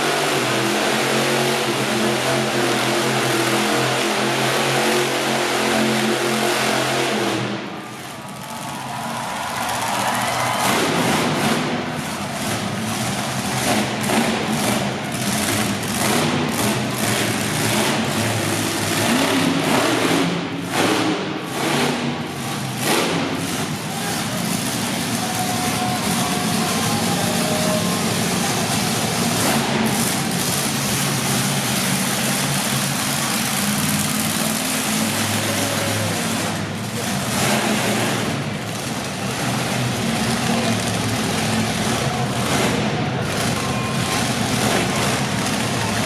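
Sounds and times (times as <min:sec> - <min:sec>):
monster truck engine revving: 0:00.0 - 0:46.0.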